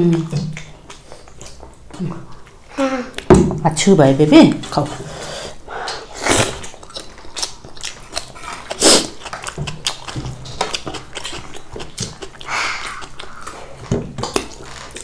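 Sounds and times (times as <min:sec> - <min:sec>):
chewing and mouth noises: 0:00.0 - 0:03.3, 0:04.6 - 0:15.0.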